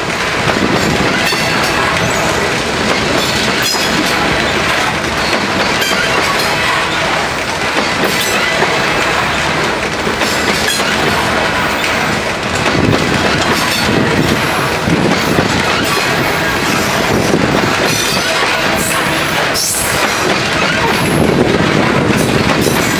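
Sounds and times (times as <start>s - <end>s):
steel wheels rumbling on rail: 0.0s - 22.9s
wheels clicking over rail joints: 0.0s - 22.9s.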